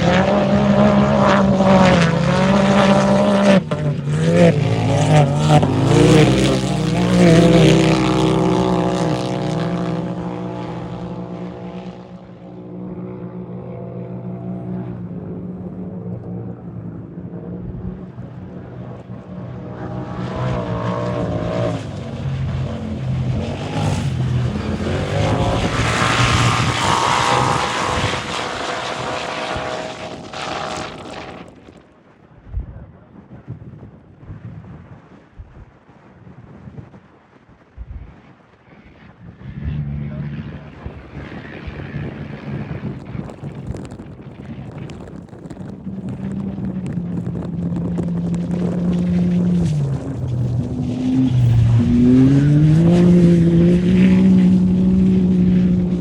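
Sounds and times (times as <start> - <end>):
race vehicle engines revving: 0.0 - 31.8, 39.1 - 56.0.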